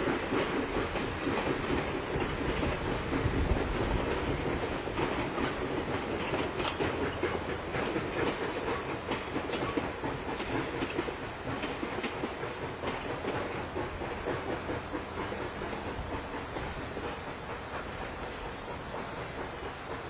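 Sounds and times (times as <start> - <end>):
train rolling across bridge: 0.0 - 20.0.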